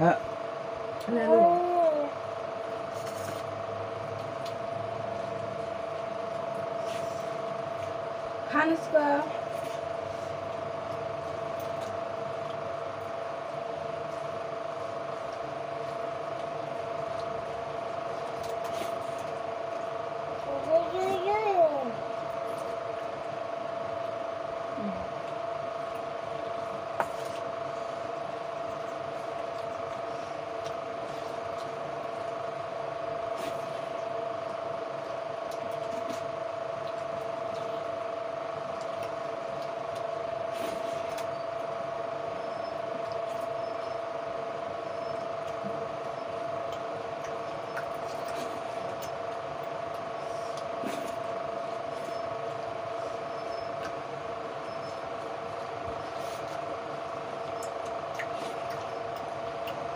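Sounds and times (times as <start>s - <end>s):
steady mid-pitched hum: 0.0s - 59.9s.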